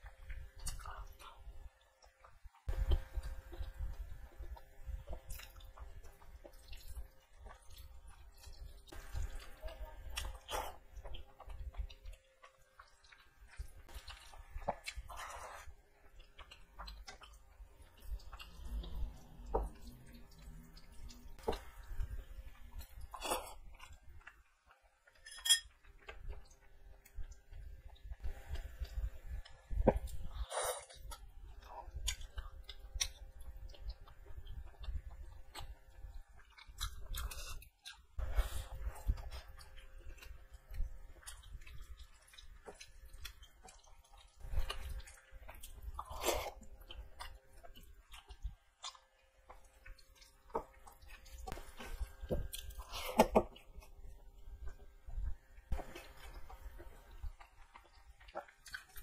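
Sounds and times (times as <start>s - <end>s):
chewing and wet mouth sounds: 0.0s - 59.0s.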